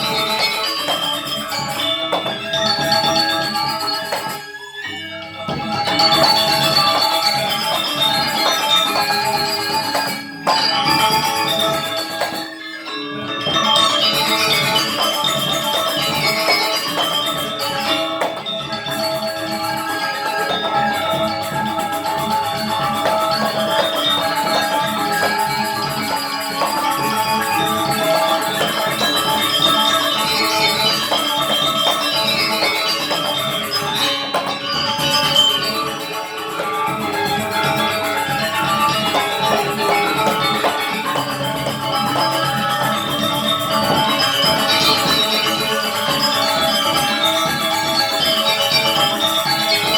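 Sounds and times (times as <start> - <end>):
gamelan ensemble playing: 0.0 - 49.9.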